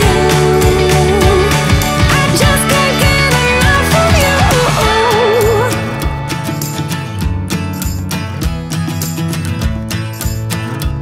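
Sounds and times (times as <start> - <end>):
pop-rock song with guitar: 0.0 - 11.0.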